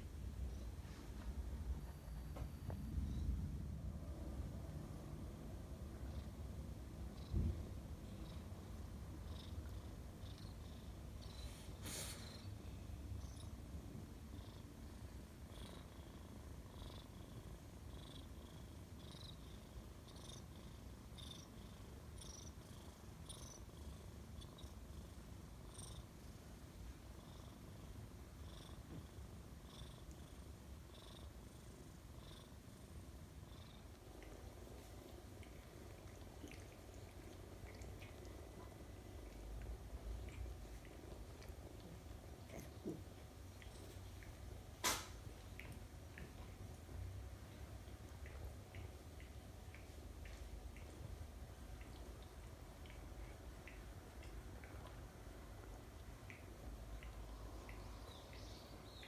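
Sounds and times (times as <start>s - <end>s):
cat purring: 4.2s - 59.0s.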